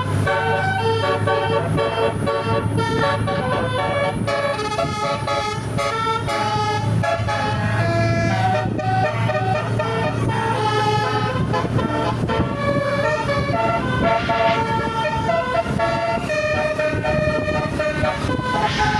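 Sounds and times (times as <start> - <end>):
multi-tone bus horn melody: 0.0 - 18.9.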